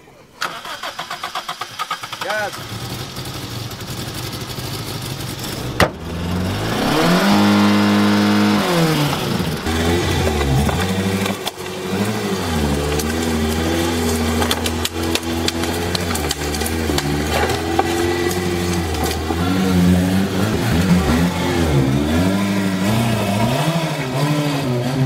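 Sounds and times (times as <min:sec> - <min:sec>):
car engine idling and revving: 0:02.0 - 0:25.0.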